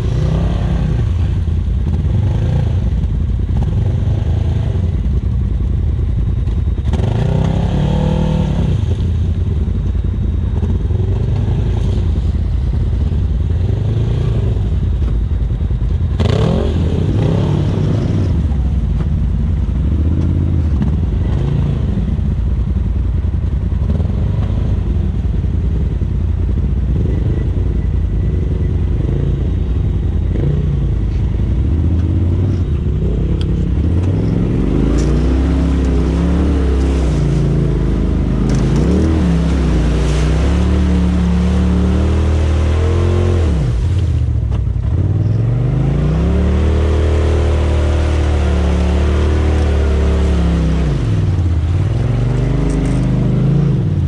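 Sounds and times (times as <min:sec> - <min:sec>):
utv engines running and revving: 0:00.0 - 0:54.0.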